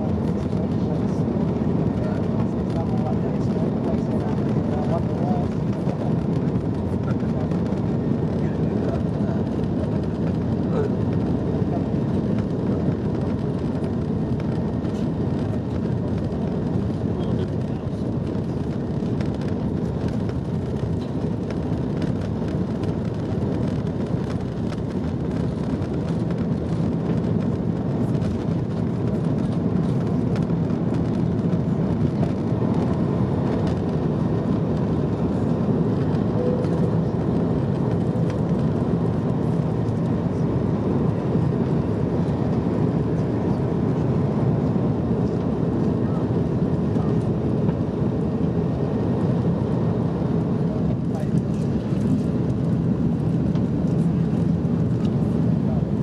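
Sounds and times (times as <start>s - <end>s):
jet engines roaring: 0.0s - 56.0s
runway rumble: 0.0s - 56.0s.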